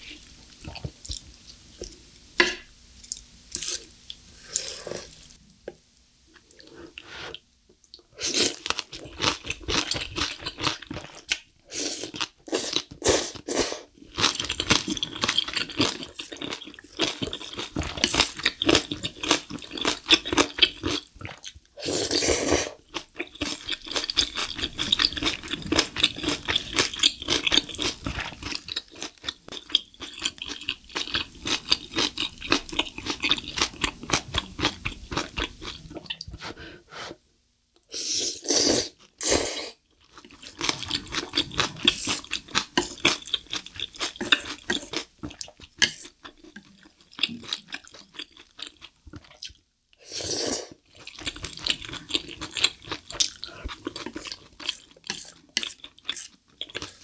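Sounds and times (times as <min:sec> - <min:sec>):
close chewing of noodles: 0:08.2 - 0:36.4, 0:38.4 - 0:49.6, 0:50.2 - 0:57.0.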